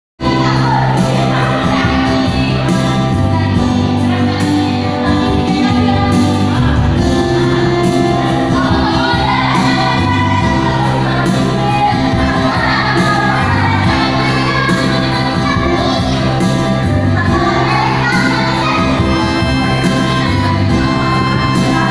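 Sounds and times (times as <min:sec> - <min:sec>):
bass notes: 0:00.2 - 0:21.9
people singing: 0:00.2 - 0:21.9.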